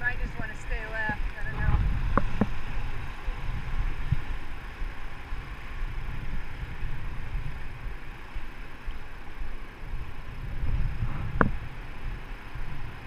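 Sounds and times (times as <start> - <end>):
river water rushing: 0.0 - 13.0
wind buffeting microphone: 0.0 - 13.0.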